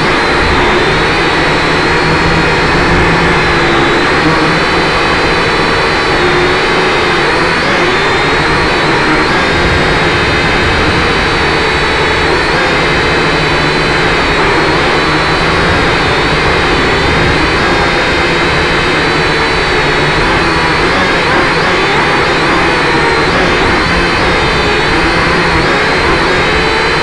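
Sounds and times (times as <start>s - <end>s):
model car motor whining: 0.0s - 27.0s.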